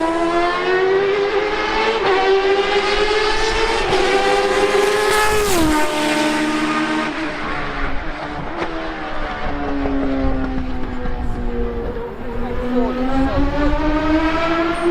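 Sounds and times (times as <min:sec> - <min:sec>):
race car engine at high revs: 0:00.0 - 0:14.9.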